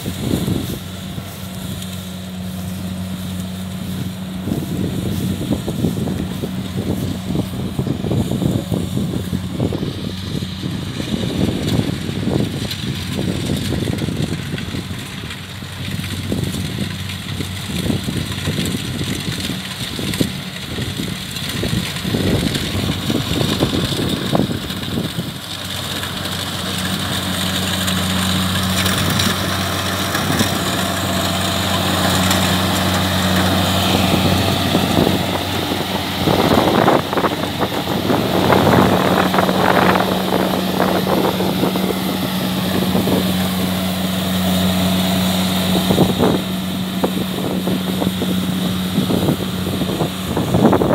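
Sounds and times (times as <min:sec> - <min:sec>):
combine harvester diesel engine running: 0:00.0 - 0:50.9
rough mechanical noise: 0:00.0 - 0:50.9.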